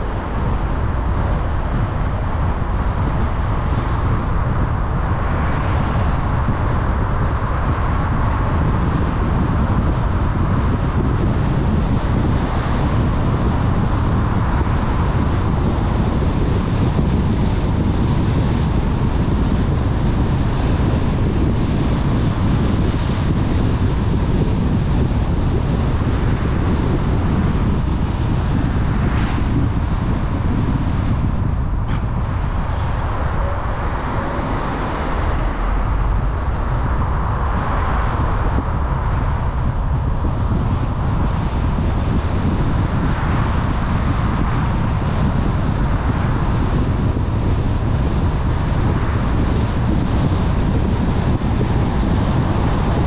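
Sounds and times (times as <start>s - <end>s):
wind hiss: 0.0s - 12.3s, 21.2s - 53.0s
car road rumble: 0.0s - 53.0s.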